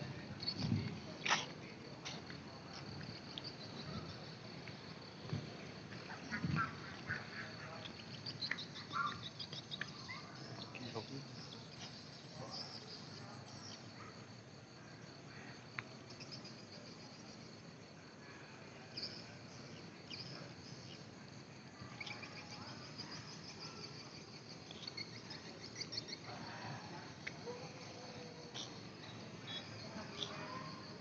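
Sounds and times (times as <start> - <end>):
insects chirping faintly: 0.0 - 31.0.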